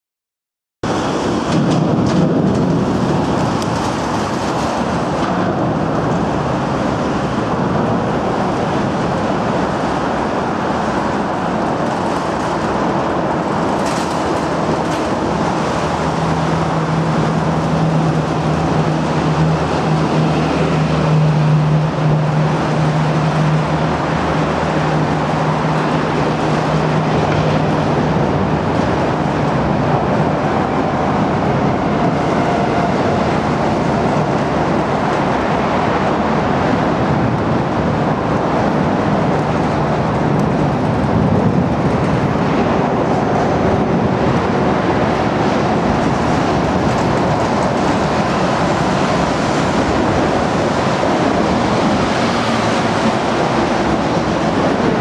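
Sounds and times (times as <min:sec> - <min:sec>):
traffic rumble on bridge: 0:00.8 - 0:55.0.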